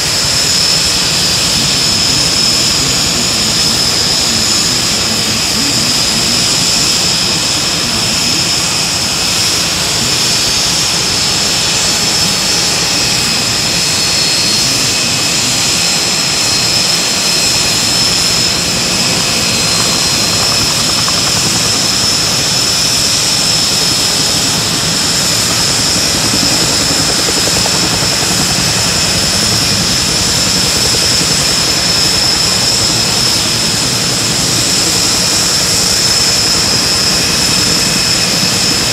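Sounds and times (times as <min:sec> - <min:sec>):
turbine engine whine: 0:00.0 - 0:38.9.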